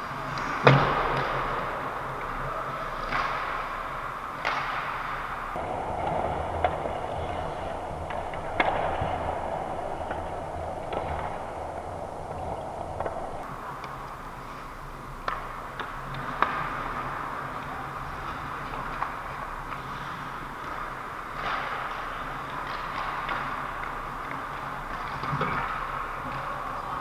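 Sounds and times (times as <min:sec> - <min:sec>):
hockey sticks and puck clacking: 0:00.0 - 0:27.0
skates scraping ice: 0:00.0 - 0:27.0.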